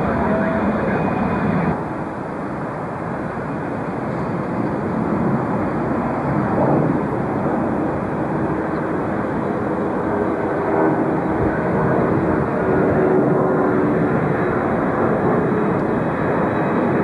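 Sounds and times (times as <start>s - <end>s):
jet engines at low power: 0.0s - 17.0s.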